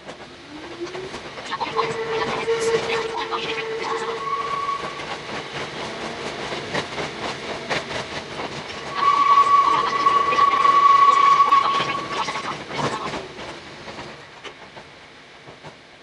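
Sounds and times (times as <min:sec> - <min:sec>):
electric train running on track: 0:00.0 - 0:16.0.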